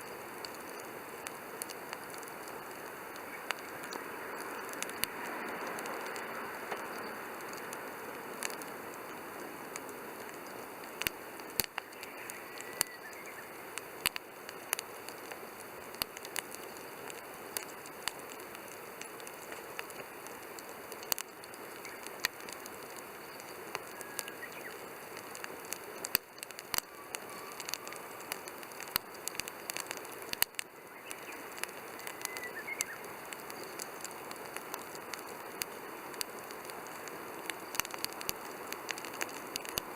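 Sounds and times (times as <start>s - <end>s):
campfire hiss: 0.0s - 39.9s
fire crackling and popping: 0.0s - 39.9s.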